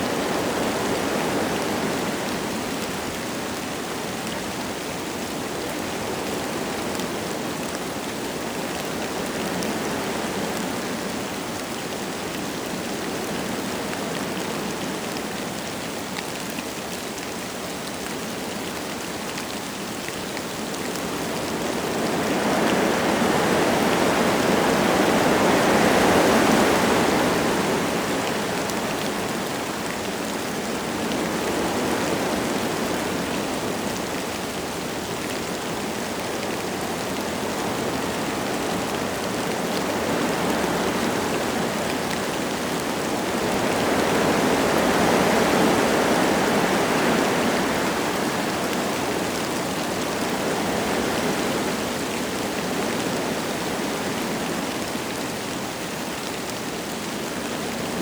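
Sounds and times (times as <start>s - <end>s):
light rain falling: 0.0s - 58.0s
wind through trees: 0.0s - 58.0s.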